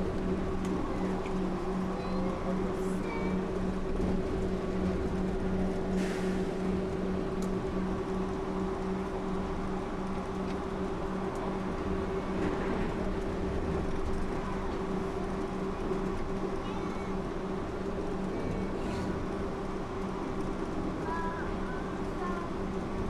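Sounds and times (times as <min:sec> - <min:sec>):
train drive hum: 0:00.0 - 0:23.0.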